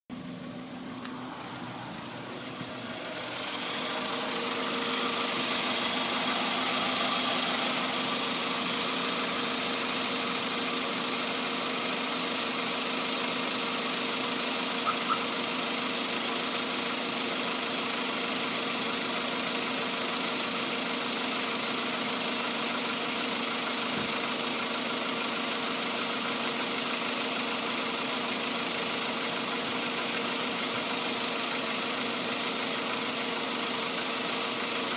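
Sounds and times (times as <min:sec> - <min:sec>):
car engine running with a knock: 0:00.6 - 0:34.9.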